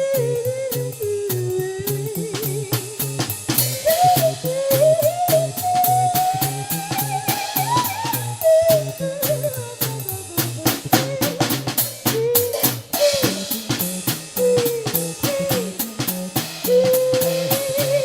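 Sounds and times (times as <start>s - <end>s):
drum kit beat: 0.0s - 18.0s
pulsing bass line: 1.4s - 18.0s
sliding lead melody: 2.1s - 18.0s.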